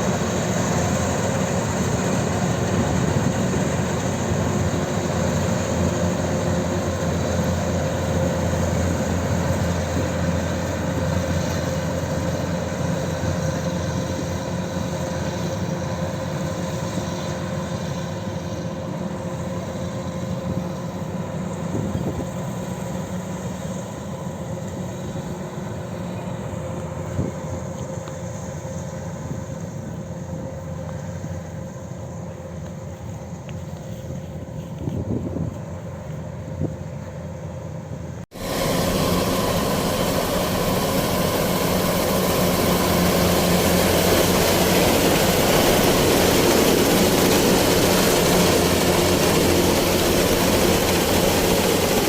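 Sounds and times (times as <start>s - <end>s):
combine harvester engine running: 0.0s - 52.0s
constant machine whine: 0.0s - 52.0s.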